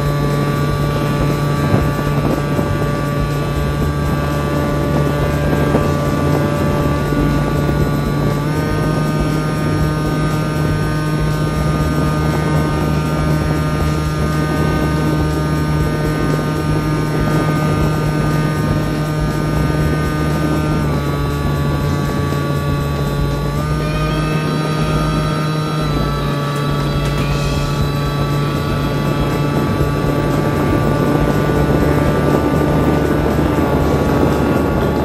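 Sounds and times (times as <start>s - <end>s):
electric motor and propeller whine: 0.0s - 35.0s.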